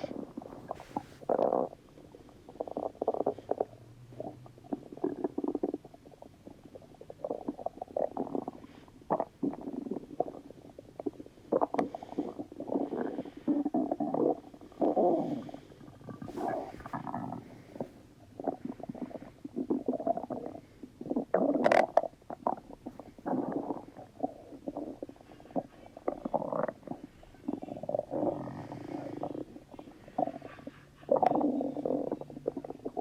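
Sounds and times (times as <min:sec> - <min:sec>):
stomach rumbling and gurgling: 0:00.0 - 0:33.0.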